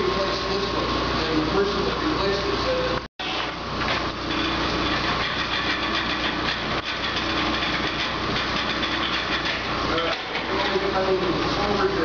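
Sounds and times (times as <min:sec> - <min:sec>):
belt-driven machine tool running: 0:00.0 - 0:12.0.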